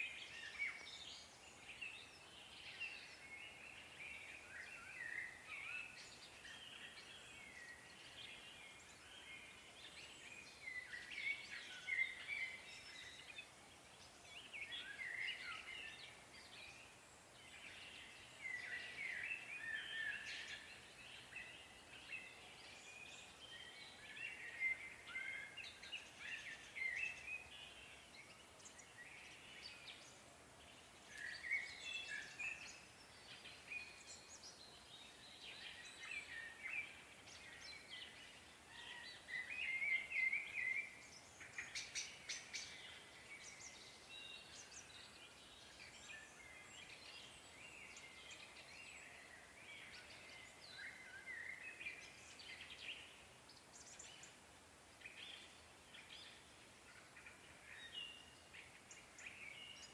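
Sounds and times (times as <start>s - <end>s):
faint background hiss: 0.0s - 59.9s
songbirds singing and chirping: 0.0s - 59.9s.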